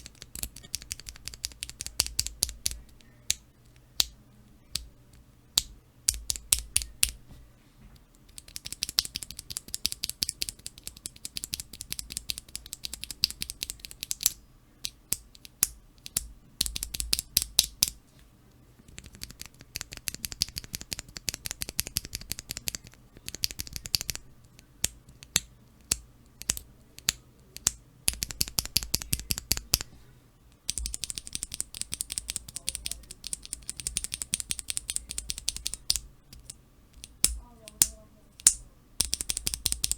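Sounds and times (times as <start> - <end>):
clacking keyboard keystrokes: 0.0 - 3.1, 8.3 - 17.9, 18.9 - 29.9, 30.6 - 39.9.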